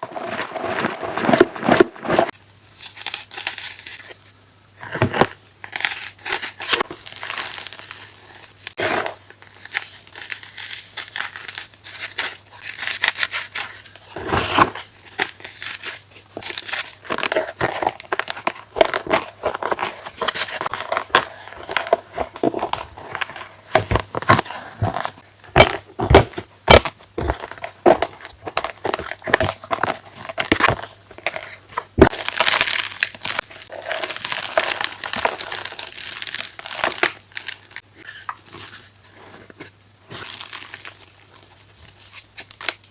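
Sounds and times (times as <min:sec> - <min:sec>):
chalk crunching and crumbling: 0:04.8 - 0:42.8.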